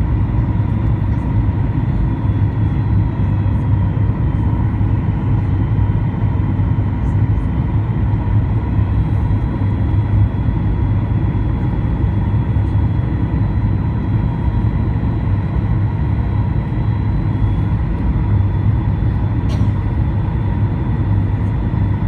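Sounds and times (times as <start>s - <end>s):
airplane cabin engine rumble: 0.0s - 22.0s.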